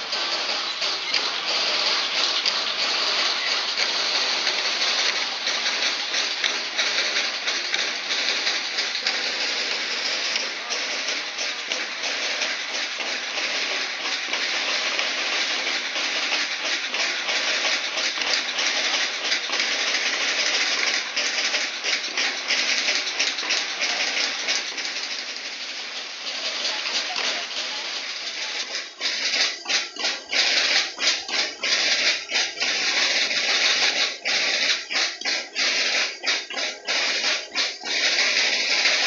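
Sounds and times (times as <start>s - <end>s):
marching band drums rattling: 0.0s - 39.0s.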